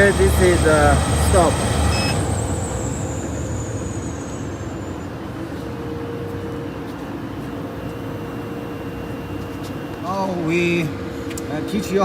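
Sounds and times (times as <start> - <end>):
machine winding down whine: 0.0 - 11.0
factory machinery humming: 0.0 - 12.0.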